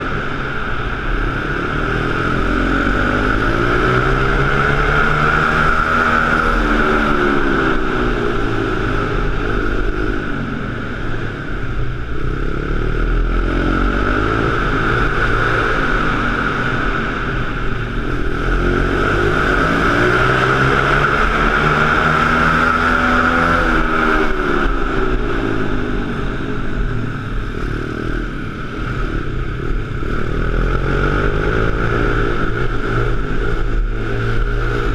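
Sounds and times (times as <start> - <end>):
pit bike engine whine: 0.0 - 34.9.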